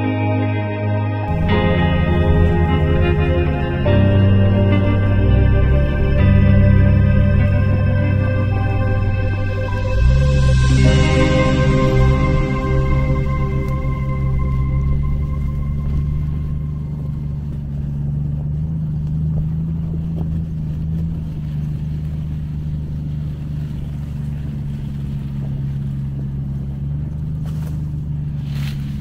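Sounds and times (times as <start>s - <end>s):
car engine droning: 1.2s - 29.0s.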